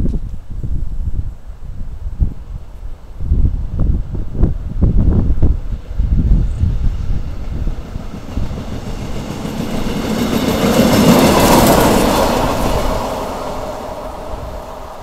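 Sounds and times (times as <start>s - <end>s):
work train passing on rails: 2.6s - 15.0s.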